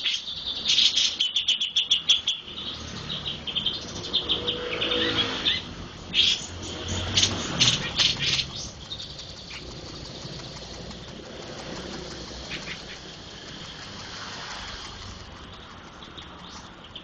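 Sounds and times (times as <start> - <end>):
songbird chirping: 0.0 - 14.4.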